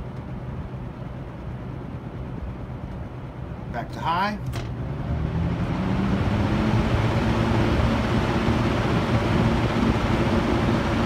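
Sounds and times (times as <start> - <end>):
fan air rushing: 0.0 - 11.0
fan motor hum: 0.0 - 11.0.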